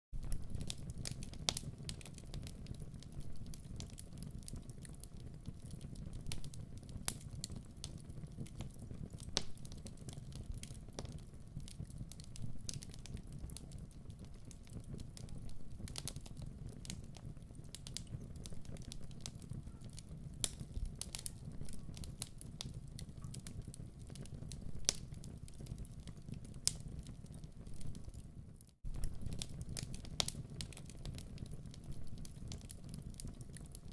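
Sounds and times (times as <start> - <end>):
wood fire crackling: 0.2 - 33.9.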